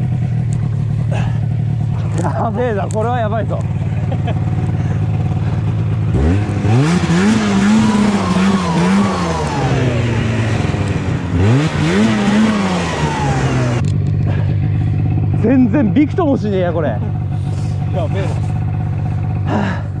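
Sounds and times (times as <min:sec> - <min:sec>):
snowmobile engine revving: 0:00.0 - 0:19.9
track churning snow: 0:00.0 - 0:20.0.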